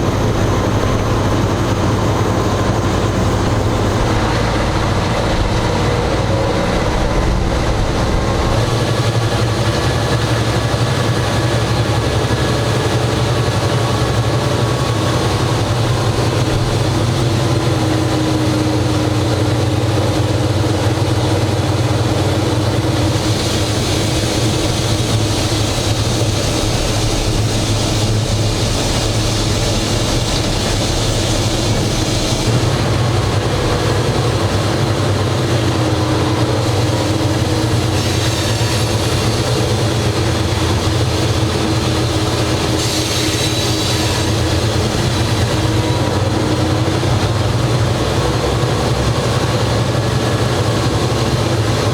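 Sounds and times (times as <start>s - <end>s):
locomotive diesel engine droning: 0.0s - 51.9s.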